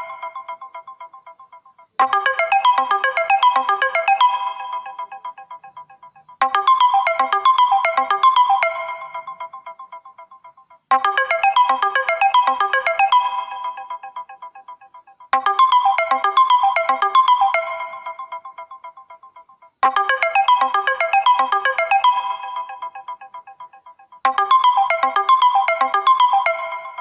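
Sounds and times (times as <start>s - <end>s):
phone ringtone melody: 2.0s - 9.8s, 10.9s - 14.7s, 15.4s - 18.9s, 19.8s - 27.0s.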